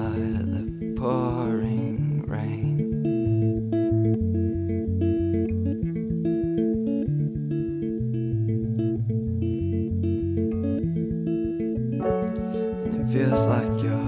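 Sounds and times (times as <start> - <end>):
bass guitar line: 0.0 - 14.0
picked electric guitar: 0.0 - 14.0.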